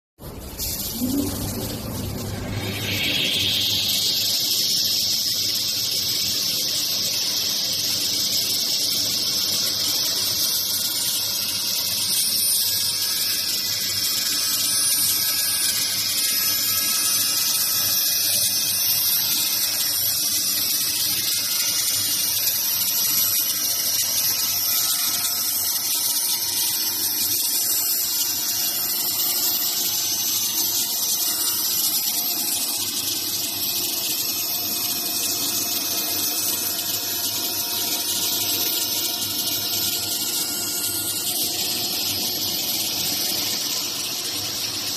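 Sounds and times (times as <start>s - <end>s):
saw machine high-pitched hiss: 0.2s - 44.9s.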